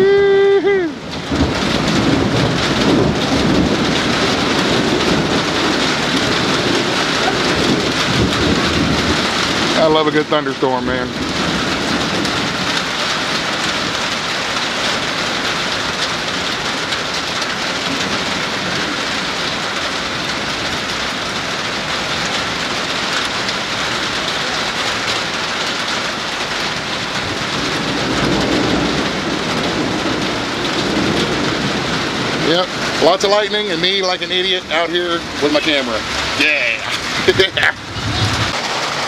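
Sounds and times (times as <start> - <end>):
heavy rain: 0.0 - 39.0
low thunder rumble: 0.7 - 39.0.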